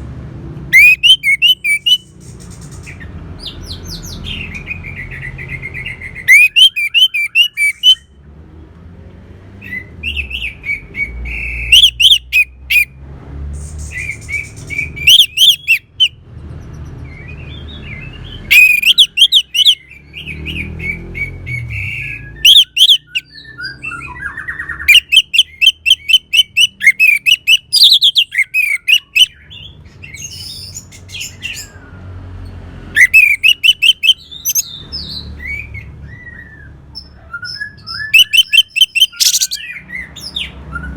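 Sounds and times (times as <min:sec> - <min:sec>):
thrushes singing: 0:00.6 - 0:08.2, 0:09.6 - 0:12.9, 0:13.6 - 0:16.2, 0:17.1 - 0:31.9, 0:32.8 - 0:40.9.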